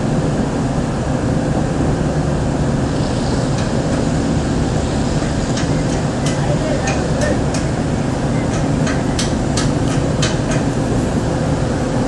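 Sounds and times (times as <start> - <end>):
ship low rumble: 0.0 - 12.0.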